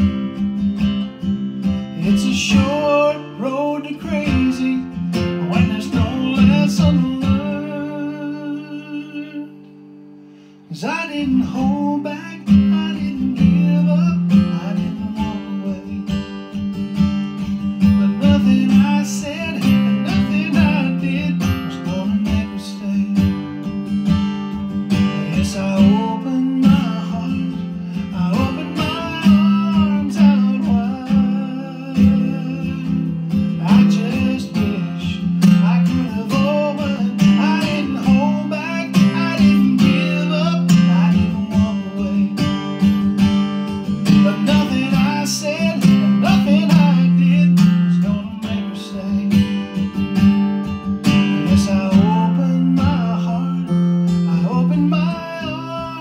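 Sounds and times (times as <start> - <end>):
acoustic guitar strumming: 0.0 - 56.0
man singing: 1.6 - 9.7, 10.7 - 16.6, 17.4 - 23.7, 24.9 - 43.0, 43.8 - 50.0, 51.0 - 56.0.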